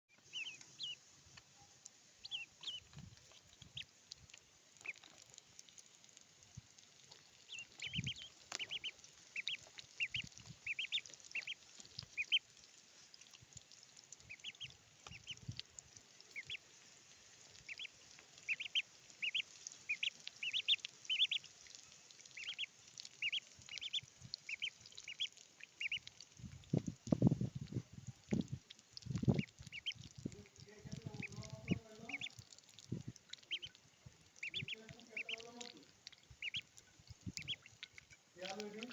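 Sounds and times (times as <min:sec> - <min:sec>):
ducklings peeping: 0:00.1 - 0:01.5, 0:02.2 - 0:05.8, 0:07.1 - 0:12.6, 0:13.2 - 0:16.7, 0:17.4 - 0:38.9.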